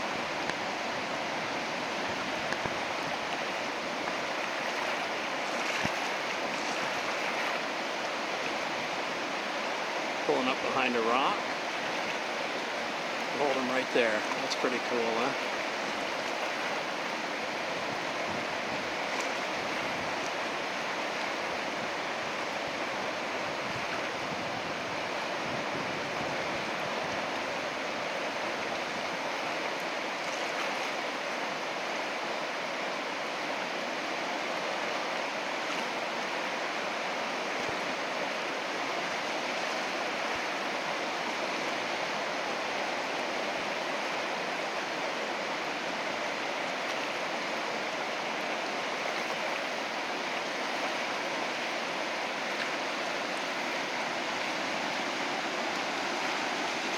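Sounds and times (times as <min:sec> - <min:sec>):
river rapids rushing: 0:00.0 - 0:56.9.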